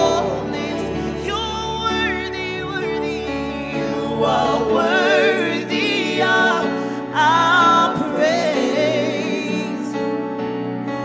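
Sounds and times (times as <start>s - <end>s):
harmony voices: 0.0s - 10.1s
woman singing gospel lead: 0.0s - 10.1s
sustained instrumental chords: 0.0s - 11.0s.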